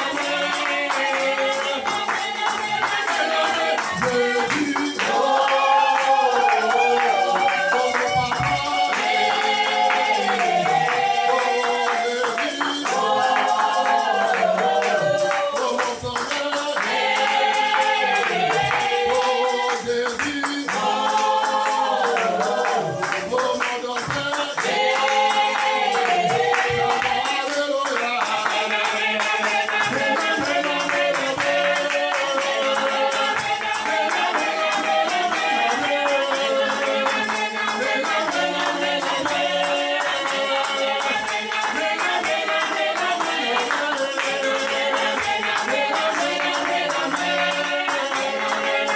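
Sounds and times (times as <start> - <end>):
tambourine or rattle beat: 0.0 - 48.9
voices singing worship song: 0.0 - 48.9.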